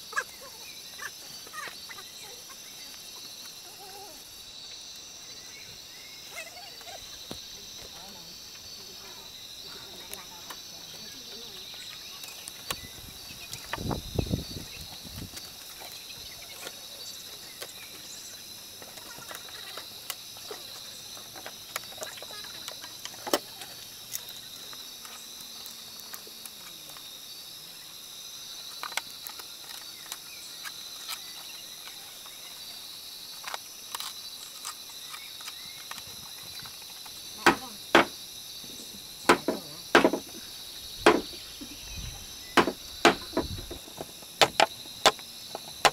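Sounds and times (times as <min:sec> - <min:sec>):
insect chorus: 0:00.0 - 0:45.9.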